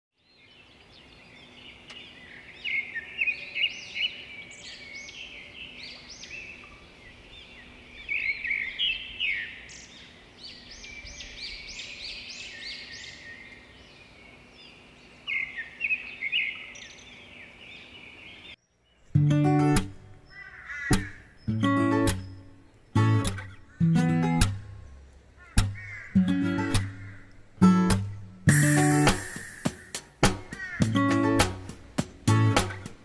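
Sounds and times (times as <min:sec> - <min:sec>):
birds singing: 0:00.2 - 0:31.5.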